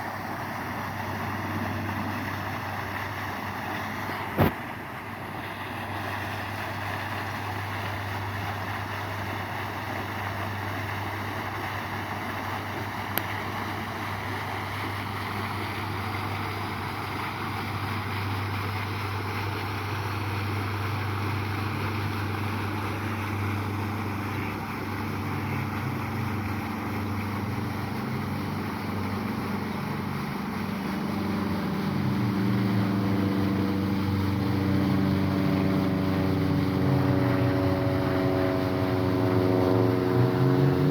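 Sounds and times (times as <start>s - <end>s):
motor engine humming: 0.0s - 40.9s
steady rushing noise: 0.0s - 40.9s.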